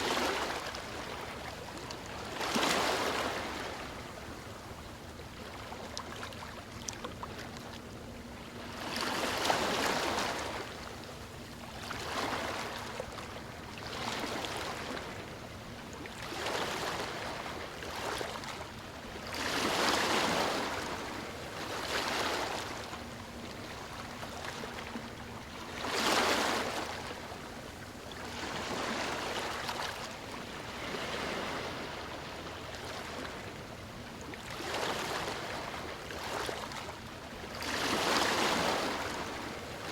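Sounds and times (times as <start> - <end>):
ocean waves lapping on shore: 0.0 - 39.9.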